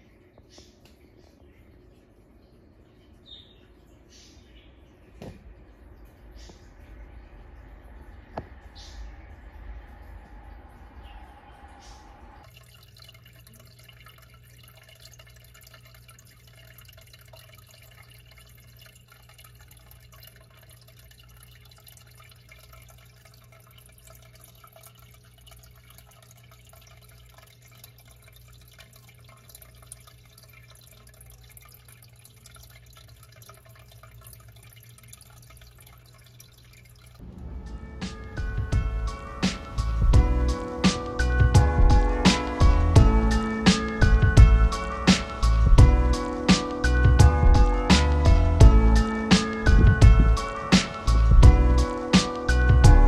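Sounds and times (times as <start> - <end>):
constant low hum: 0.0 - 52.0.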